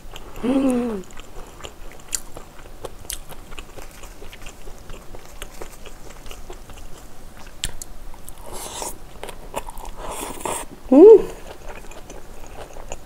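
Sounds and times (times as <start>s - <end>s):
chewing with mouth clicks: 0.1s - 10.7s, 11.4s - 13.0s.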